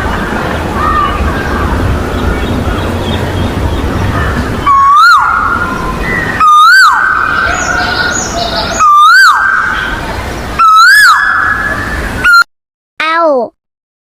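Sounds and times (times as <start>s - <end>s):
cuckoo calling: 0.8s - 12.5s.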